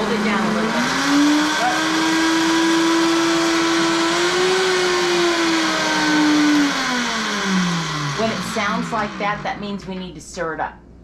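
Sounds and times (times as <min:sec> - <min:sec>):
blender motor running: 0:00.0 - 0:09.7.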